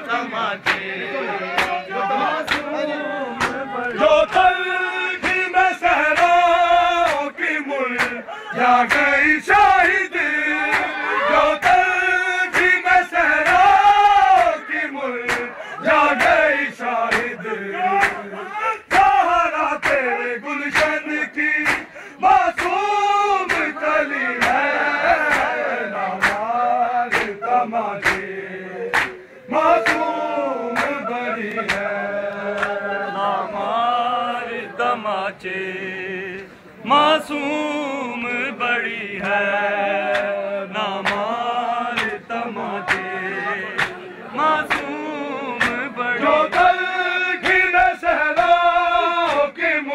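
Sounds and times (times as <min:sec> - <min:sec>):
men chanting in unison: 0:00.0 - 0:49.9.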